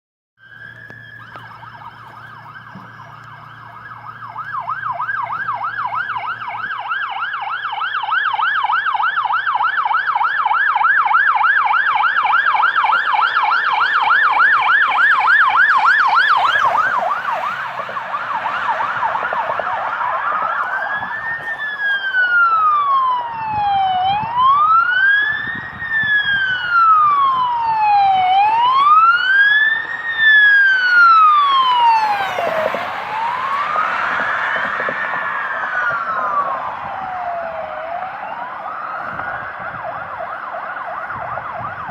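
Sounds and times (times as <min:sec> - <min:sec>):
police siren wail: 0:00.4 - 0:41.9
police siren yelp: 0:00.4 - 0:41.9
second siren wailing: 0:00.4 - 0:41.9.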